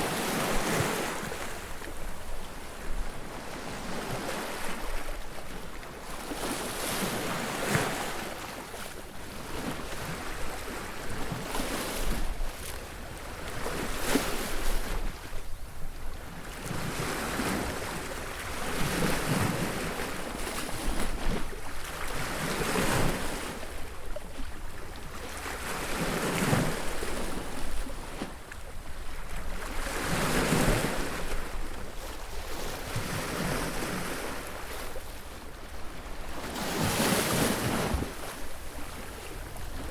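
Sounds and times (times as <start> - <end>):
sea waves breaking on beach: 0.0 - 15.5, 16.2 - 39.9.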